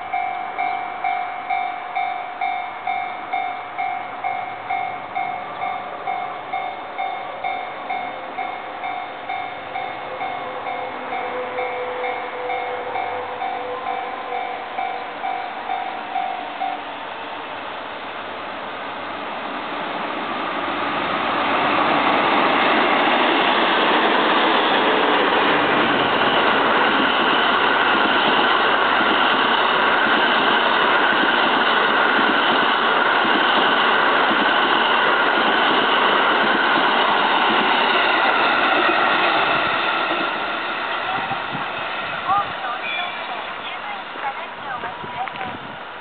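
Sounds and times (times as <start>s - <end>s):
train wheels on rail: 0.0s - 46.0s.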